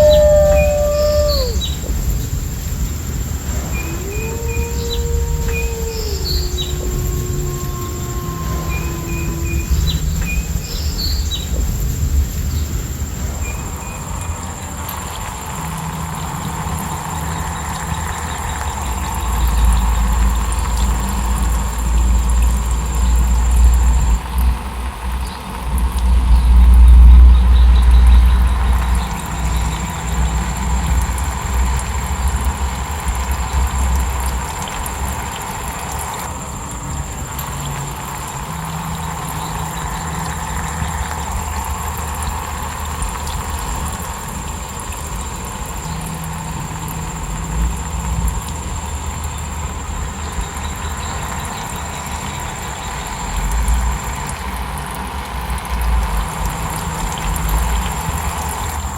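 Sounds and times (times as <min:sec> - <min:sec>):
cricket trill: 0:00.0 - 0:58.9
deep rumble: 0:00.0 - 0:58.9.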